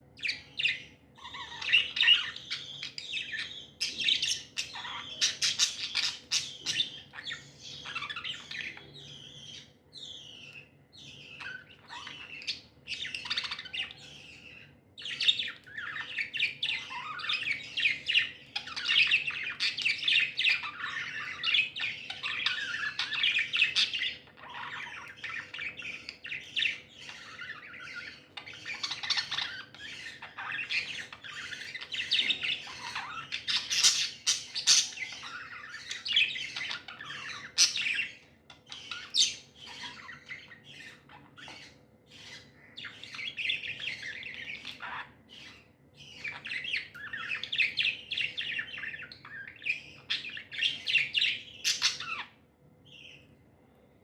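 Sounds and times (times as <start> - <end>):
budgerigars chirping and warbling: 0.0 - 53.5.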